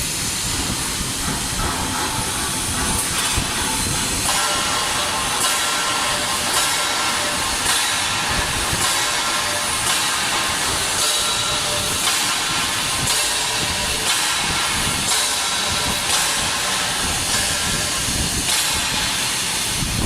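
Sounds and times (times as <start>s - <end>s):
welding arc hissing and crackling: 0.0s - 20.0s.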